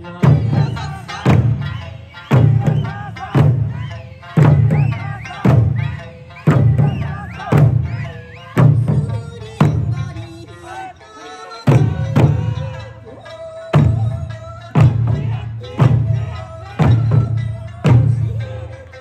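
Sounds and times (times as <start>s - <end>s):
large barrel drum beats: 0.0s - 10.6s, 11.7s - 13.0s, 13.7s - 18.8s
folk song over loudspeakers: 0.0s - 19.0s.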